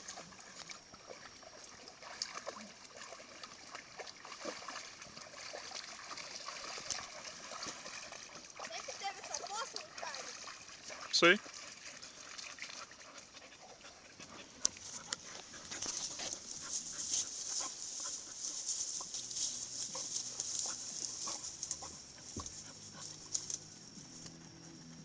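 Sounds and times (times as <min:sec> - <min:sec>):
rustling through wet grass: 0:00.0 - 0:25.0
dogs panting: 0:04.0 - 0:25.0.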